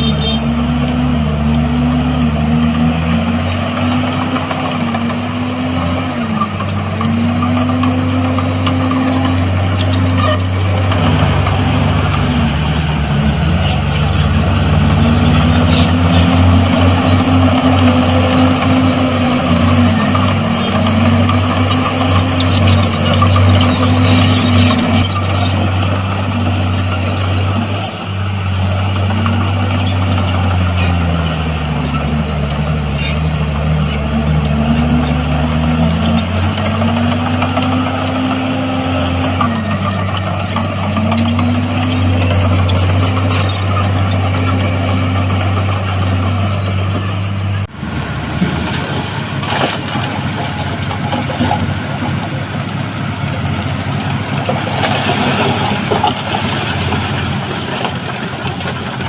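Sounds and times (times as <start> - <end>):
engine running steadily: 0.0 - 59.0
heavy machinery diesel engine: 0.0 - 59.0.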